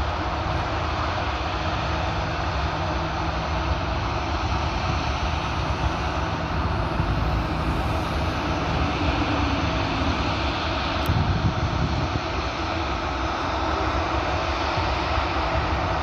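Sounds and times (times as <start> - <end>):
jet engine rumbling: 0.0 - 16.0.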